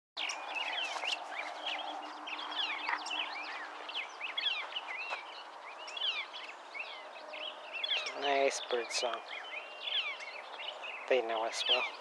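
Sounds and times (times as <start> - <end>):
songbirds singing: 0.2 - 12.0.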